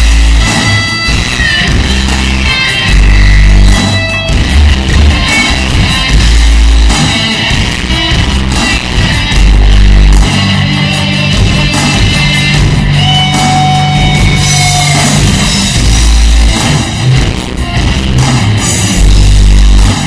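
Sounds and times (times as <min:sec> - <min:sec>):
bass-boosted rock music with guitar: 0:00.0 - 0:20.0.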